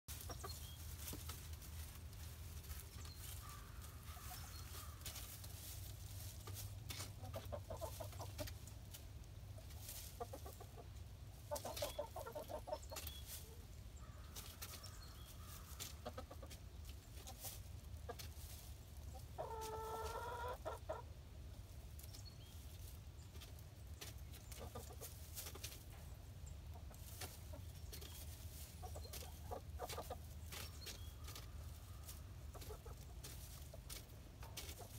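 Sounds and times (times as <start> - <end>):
hens clucking: 0.1 - 34.9.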